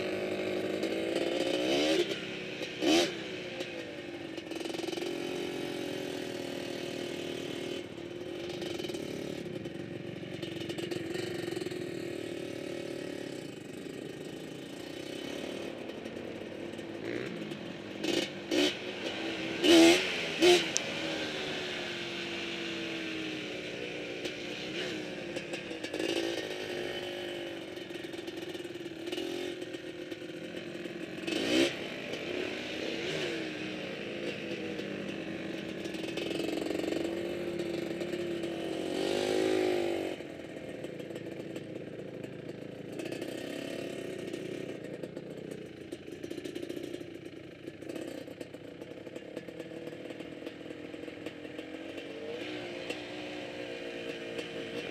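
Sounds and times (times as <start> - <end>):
quad bike engine revving: 0.0 - 54.9.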